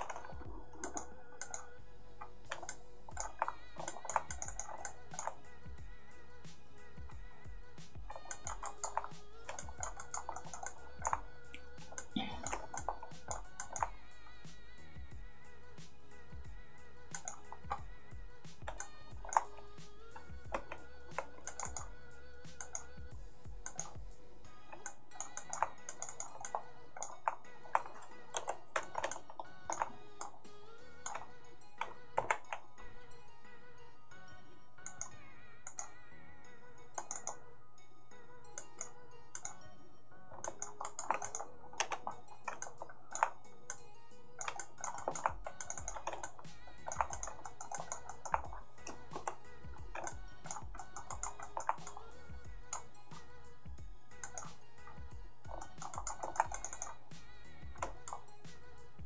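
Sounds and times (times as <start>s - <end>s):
computer keys clicking: 0.0s - 5.8s, 6.4s - 14.6s, 17.0s - 33.4s, 34.1s - 36.0s, 36.8s - 37.5s, 38.4s - 39.7s, 40.3s - 59.0s
soft background music: 0.0s - 59.0s.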